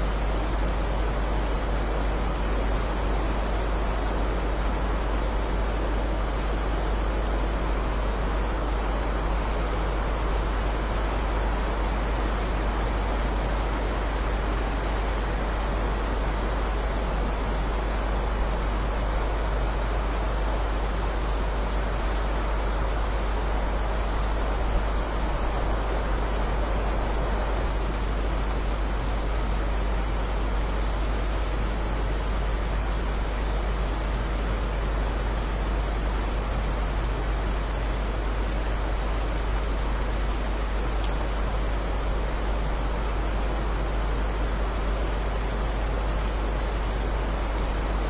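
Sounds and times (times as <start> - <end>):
heavy rain: 0.0 - 48.0.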